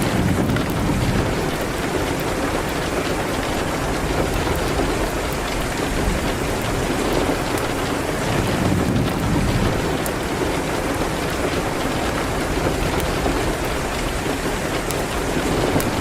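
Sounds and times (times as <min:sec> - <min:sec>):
rain hitting a window: 0:00.0 - 0:16.0
wood fire crackles: 0:00.0 - 0:16.0.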